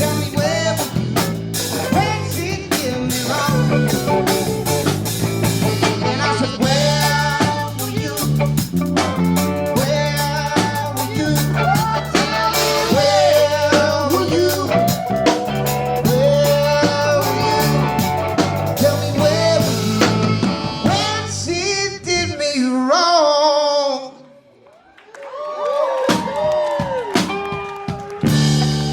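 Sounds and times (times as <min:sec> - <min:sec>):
person singing: 0:00.0 - 0:04.9, 0:05.6 - 0:24.3
rock band playing live: 0:00.0 - 0:22.5, 0:26.1 - 0:28.9.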